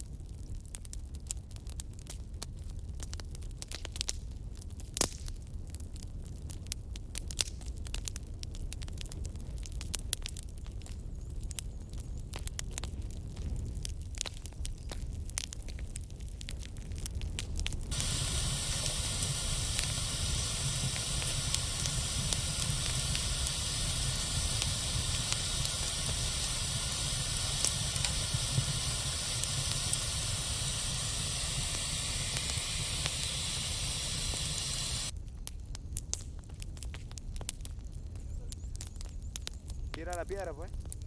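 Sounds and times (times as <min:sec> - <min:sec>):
fire hissing and crackling: 0:00.0 - 0:41.0.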